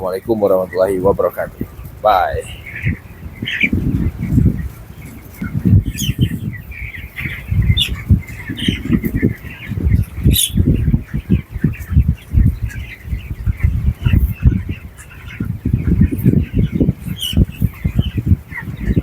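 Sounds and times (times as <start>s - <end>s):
chickens peeping and chirping: 0.0s - 19.0s
sharp high chicken calls: 0.7s - 19.0s.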